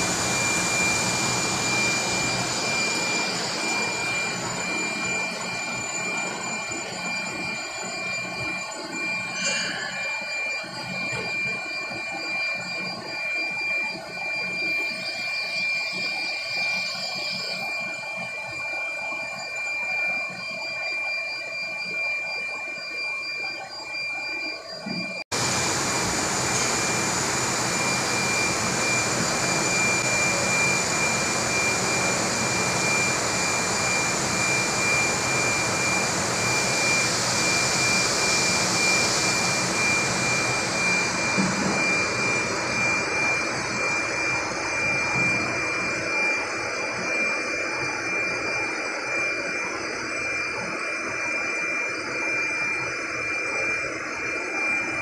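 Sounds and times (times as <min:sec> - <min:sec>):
machinery rushing hiss and whine: 0:00.0 - 0:18.4, 0:24.8 - 0:50.8.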